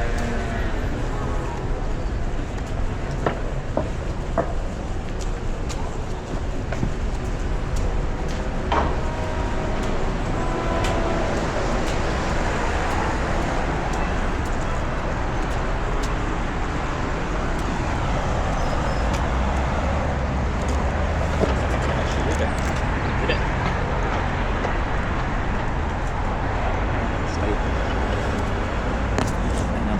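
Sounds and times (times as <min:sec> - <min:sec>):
rumble of passing vehicles: 0:00.0 - 0:29.9.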